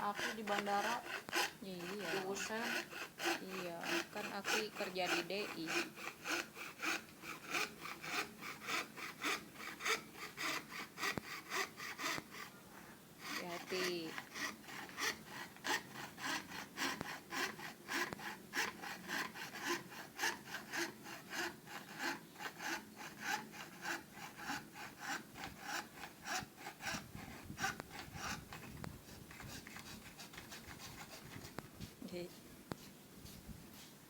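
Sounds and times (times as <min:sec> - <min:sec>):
hand saw cutting plywood: 0:00.0 - 0:12.6, 0:13.2 - 0:32.4.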